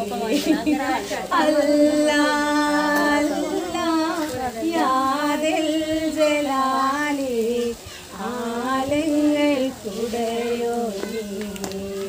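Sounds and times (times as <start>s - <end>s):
women singing unaccompanied: 0.0s - 12.0s.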